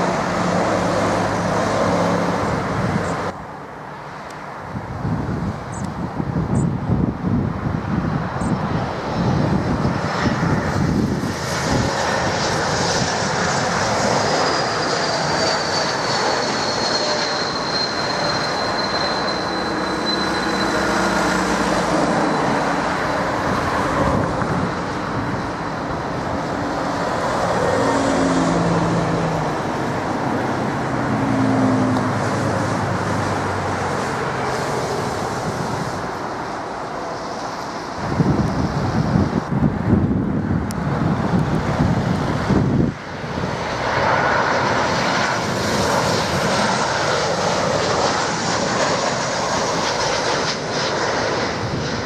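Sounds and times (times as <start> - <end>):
jet engine whine: 0.0 - 52.0
jet roar: 0.0 - 52.0.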